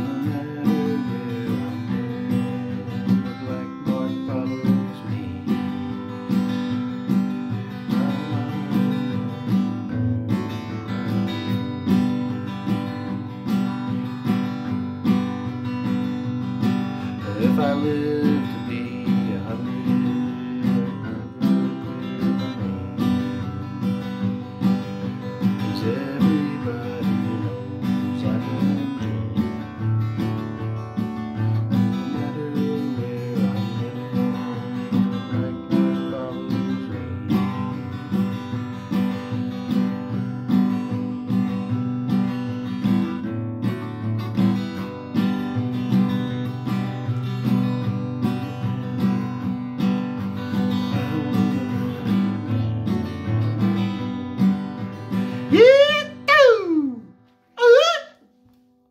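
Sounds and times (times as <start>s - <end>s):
acoustic guitar strumming: 0.0s - 58.6s.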